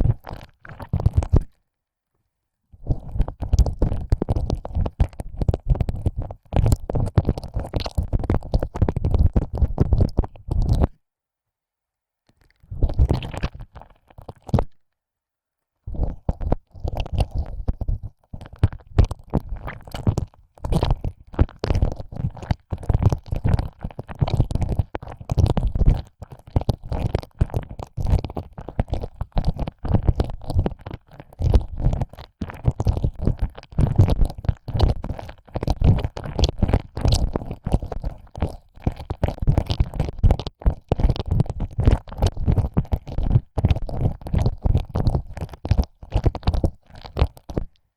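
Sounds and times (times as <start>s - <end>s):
close-up ear licking: 2.9s - 10.9s, 16.0s - 47.8s.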